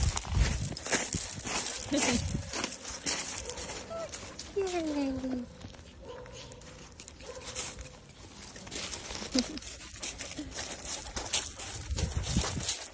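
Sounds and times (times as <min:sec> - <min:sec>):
dog scuffing on gravel: 0:00.0 - 0:12.9.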